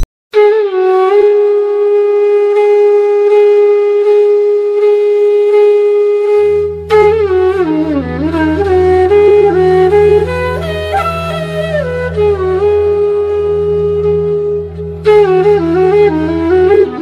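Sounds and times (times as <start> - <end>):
wind instrument melody: 0.3 - 17.0.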